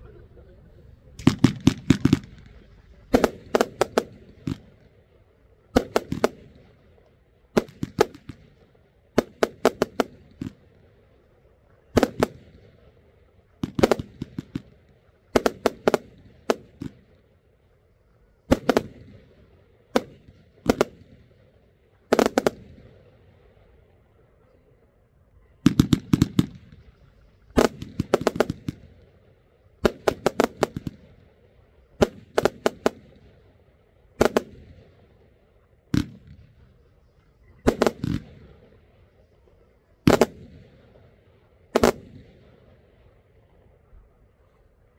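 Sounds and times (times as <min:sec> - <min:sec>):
fireworks bangs: 0:00.0 - 0:11.0, 0:11.8 - 0:17.3, 0:18.5 - 0:23.8, 0:25.5 - 0:43.6.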